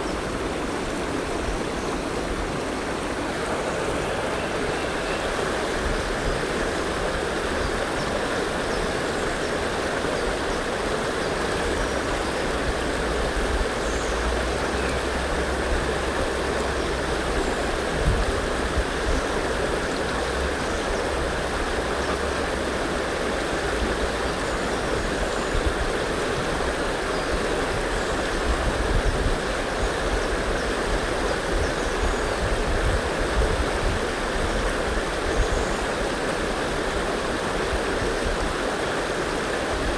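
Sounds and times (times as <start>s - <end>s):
river rushing water: 0.0s - 39.9s.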